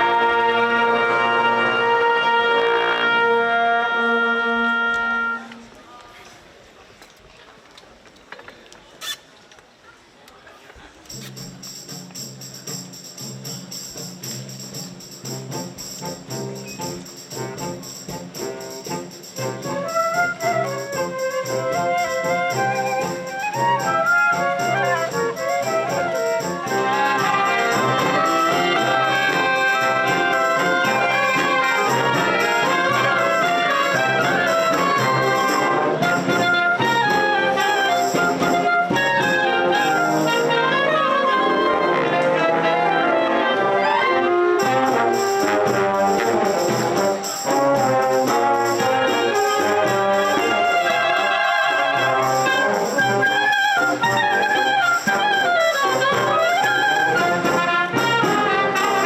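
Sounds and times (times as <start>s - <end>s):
trumpets and trombones: 0.0s - 5.8s, 11.0s - 59.0s
wind band playing: 0.0s - 5.9s, 11.0s - 59.0s.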